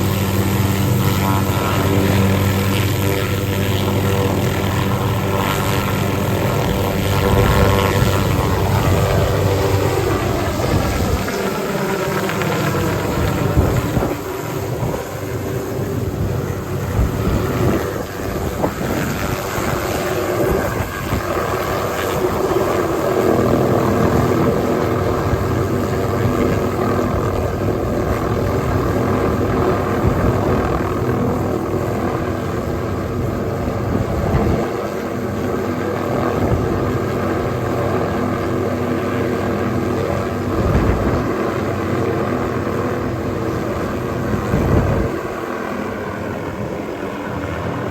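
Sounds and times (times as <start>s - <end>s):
helicopter turbine and rotor: 0.0s - 47.9s.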